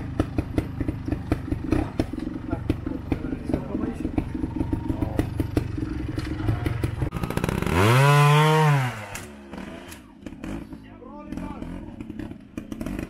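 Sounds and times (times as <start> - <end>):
motorcycle engine running and revving: 0.0 - 13.0.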